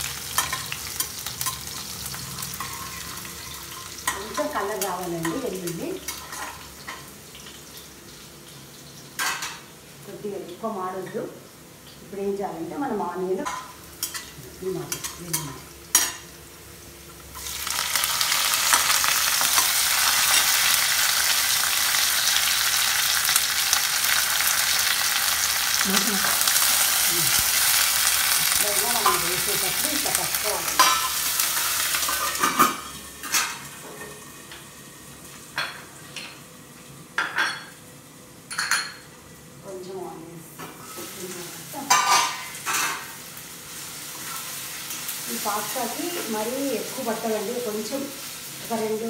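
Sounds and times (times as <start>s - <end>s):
onions sizzling in hot oil: 0.0s - 37.4s, 40.5s - 49.0s.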